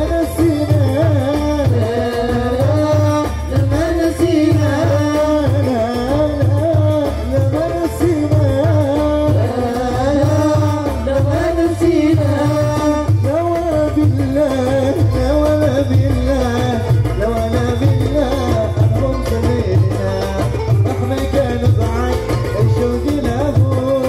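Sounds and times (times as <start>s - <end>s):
hand drums beating: 0.0s - 24.0s
oud melody: 0.0s - 24.0s.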